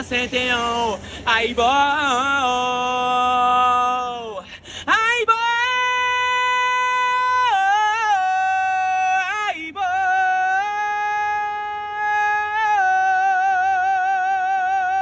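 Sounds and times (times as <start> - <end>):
man singing high notes: 0.0 - 15.0.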